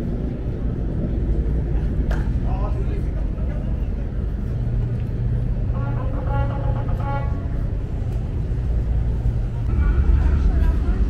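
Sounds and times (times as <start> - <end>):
traffic rumbling overhead: 0.0 - 11.0.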